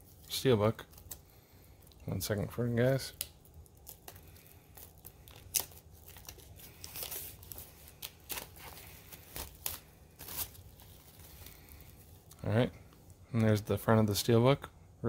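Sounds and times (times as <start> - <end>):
shrink-wrap crinkling and tearing: 0.0 - 13.1.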